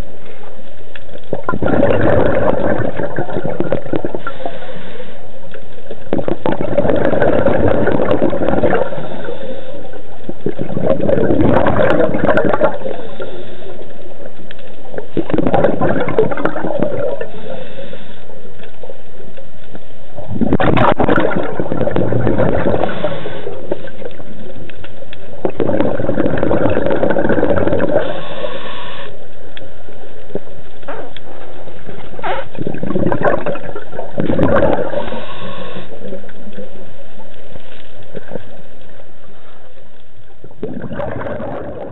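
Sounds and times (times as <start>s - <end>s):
exhaled bubbles gurgling: 0.0s - 19.3s, 20.0s - 29.3s, 29.9s - 41.9s
underwater rush: 0.0s - 41.9s.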